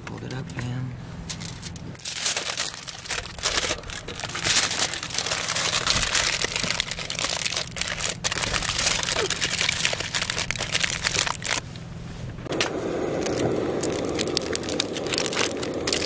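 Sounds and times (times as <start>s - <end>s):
aluminium foil crinkling: 1.3s - 11.6s, 13.2s - 16.0s.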